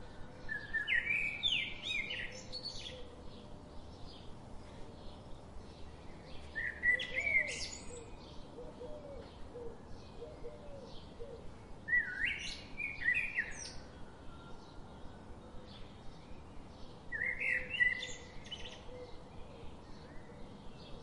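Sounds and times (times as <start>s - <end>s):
bird song phrases: 0.0s - 21.0s
faint bird chirping: 0.0s - 21.0s.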